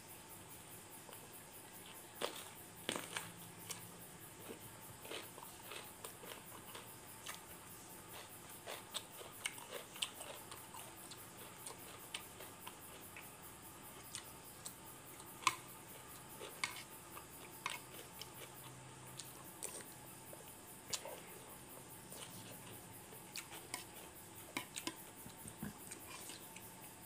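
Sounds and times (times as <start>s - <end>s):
person chewing and eating: 1.8s - 13.3s, 14.0s - 26.8s.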